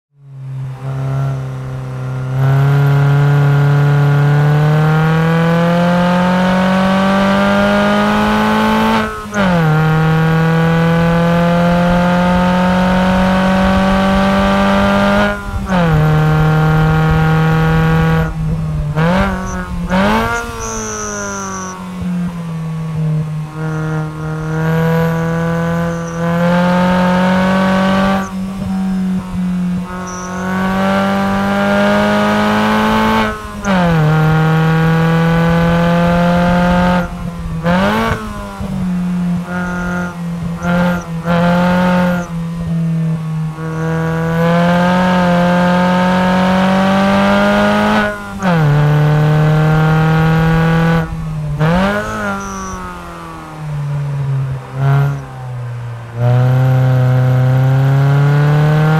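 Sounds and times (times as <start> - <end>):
car engine accelerating hard: 0.1 - 58.9.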